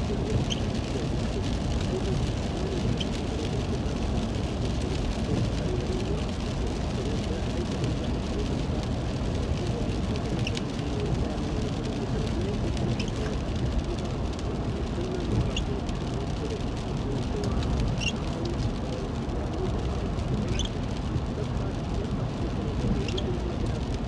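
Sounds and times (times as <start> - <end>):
faint radio talk: 0.0 - 24.0
rain on a car: 0.0 - 24.0
road noise: 0.0 - 24.0.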